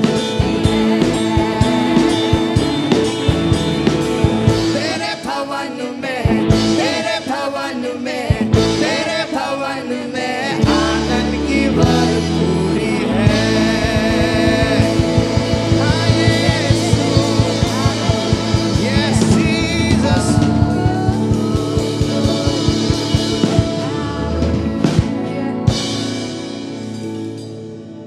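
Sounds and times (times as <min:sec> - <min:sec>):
steady drum beat: 0:00.0 - 0:05.5, 0:06.2 - 0:07.4, 0:08.2 - 0:09.4, 0:10.4 - 0:27.2
guitar: 0:00.0 - 0:28.0
rock band music: 0:00.0 - 0:28.0.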